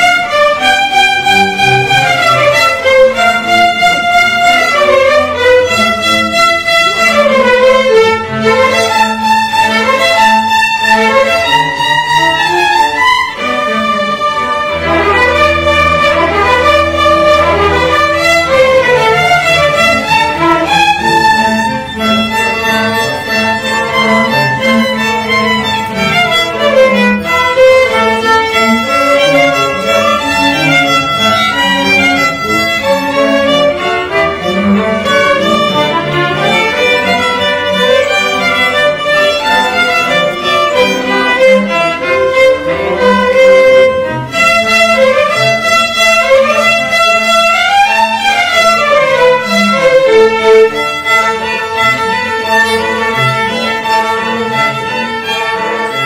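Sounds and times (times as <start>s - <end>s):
string ensemble playing: 0.0s - 56.0s.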